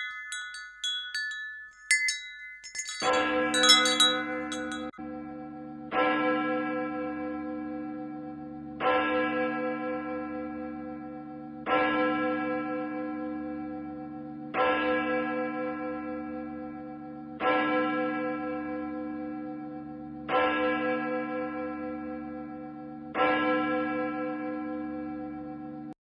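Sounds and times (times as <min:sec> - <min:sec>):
church bell tolling: 0:00.0 - 0:25.9.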